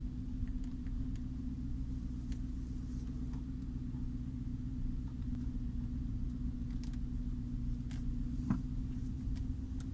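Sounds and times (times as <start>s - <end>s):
car engine low rumble: 0.0s - 9.9s.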